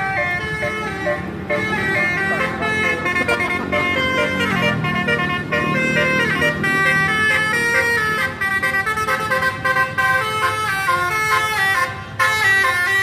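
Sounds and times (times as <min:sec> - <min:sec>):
low engine rumble: 0:00.0 - 0:13.0
musical bus horns melody: 0:00.0 - 0:13.0.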